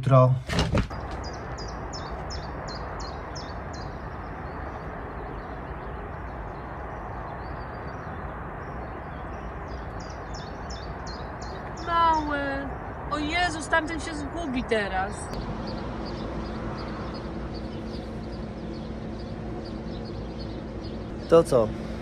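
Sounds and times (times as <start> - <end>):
rushing background noise: 0.5 - 22.0
songbird singing: 0.8 - 22.0.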